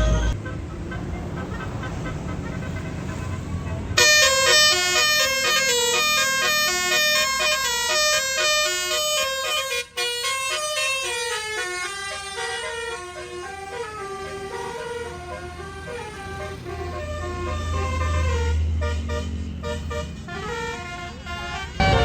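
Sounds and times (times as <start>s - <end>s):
bus engine rumble: 0.0s - 22.0s
bus horn playing melody: 0.0s - 22.0s.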